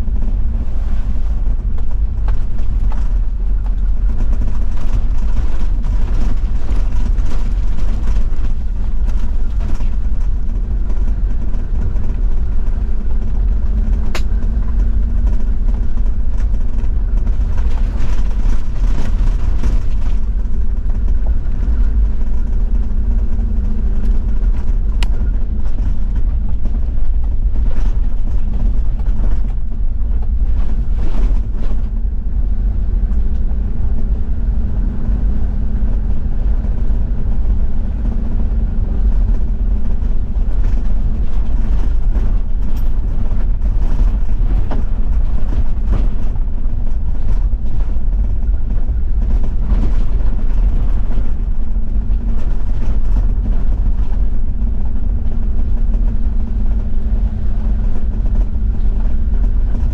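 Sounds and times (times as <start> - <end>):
diesel engine drone: 0.0 - 59.9
road and tyre rumble: 0.0 - 59.9.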